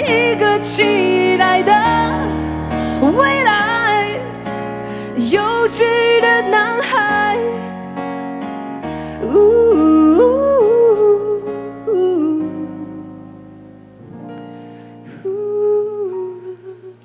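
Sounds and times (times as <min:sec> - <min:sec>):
woman singing a slow ballad: 0:00.0 - 0:08.1, 0:08.8 - 0:17.0
soft instrumental accompaniment: 0:00.0 - 0:17.0.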